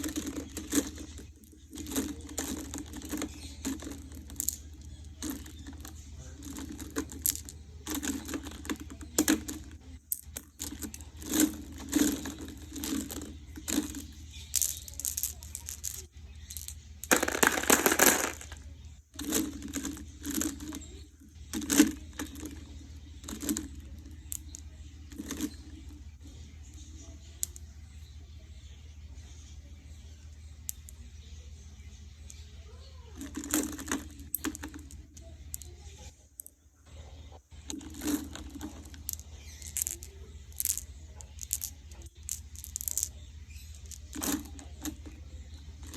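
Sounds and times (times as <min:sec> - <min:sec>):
glass marbles clicking: 0:00.0 - 0:18.6, 0:19.2 - 0:25.9, 0:33.2 - 0:36.6, 0:37.7 - 0:45.9
marbles rattling: 0:00.0 - 0:28.1, 0:30.4 - 0:31.2, 0:32.0 - 0:36.6, 0:37.6 - 0:45.9.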